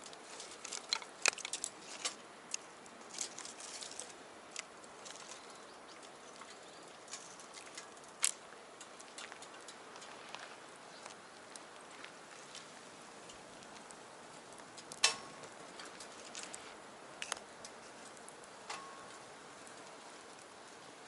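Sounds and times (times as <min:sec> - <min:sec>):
faint steady hiss: 0:00.0 - 0:21.0
wood fire crackling in a stove: 0:00.0 - 0:21.0.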